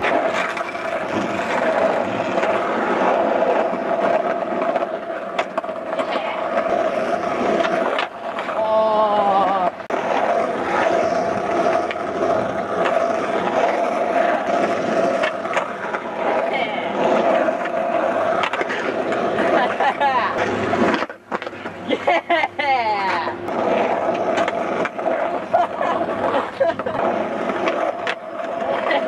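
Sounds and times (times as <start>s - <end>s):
skateboard clacks: 0.0s - 29.0s
skateboard wheels rolling on pavement: 0.0s - 29.0s.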